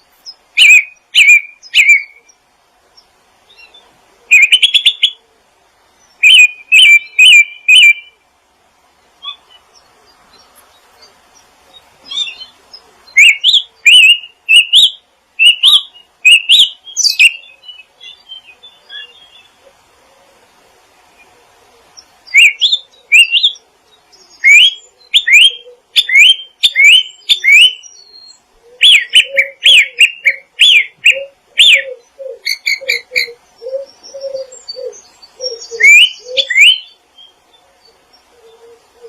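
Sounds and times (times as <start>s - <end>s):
songbird chirping and trilling: 0.0s - 8.3s, 8.9s - 39.0s.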